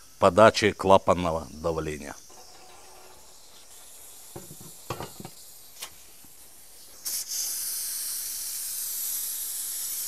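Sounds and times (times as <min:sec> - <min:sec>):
steam hissing from pressure valve: 0:01.3 - 0:10.0.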